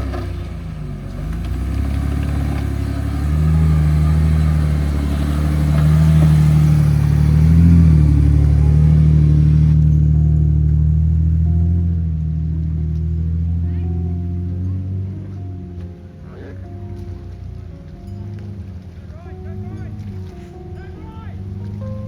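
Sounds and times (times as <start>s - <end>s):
vehicle engine revving under load: 0.0s - 22.0s.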